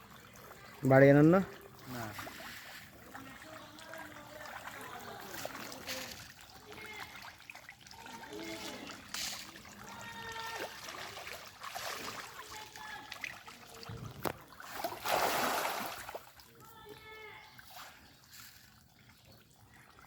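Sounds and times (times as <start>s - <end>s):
water trickling and lapping: 0.0s - 20.0s.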